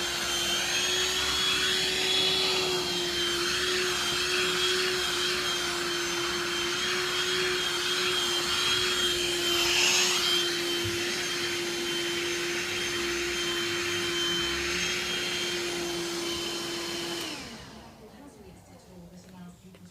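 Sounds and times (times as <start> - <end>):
vacuum cleaner running: 0.0 - 19.8.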